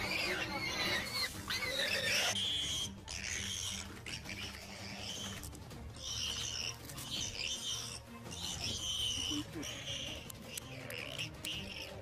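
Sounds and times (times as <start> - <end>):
animal squealing: 0.0 - 12.0
background music drone: 0.0 - 12.0.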